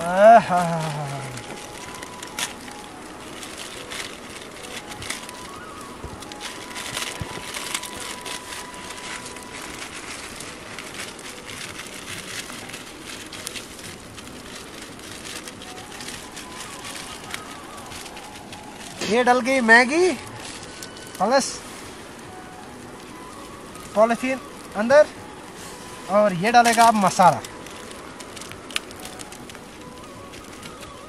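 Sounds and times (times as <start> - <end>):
plastic packet crinkling: 0.0 - 31.0
wood fire crackling: 0.0 - 31.0.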